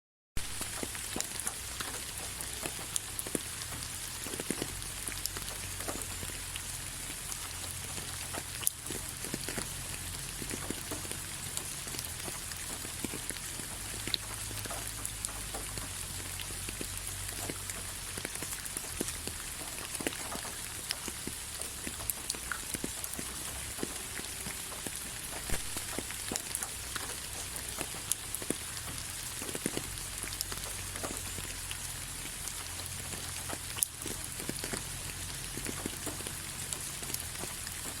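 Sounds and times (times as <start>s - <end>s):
raindrops ticking: 0.4s - 38.0s
steady rain hiss: 0.4s - 38.0s.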